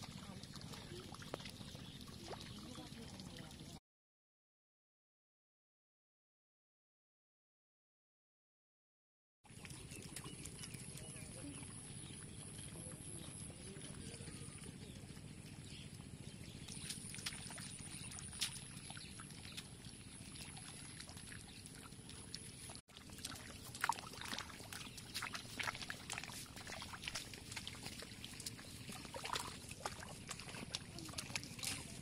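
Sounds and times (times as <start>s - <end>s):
splashes and squelches of mud: 0.0s - 3.8s, 9.5s - 32.0s.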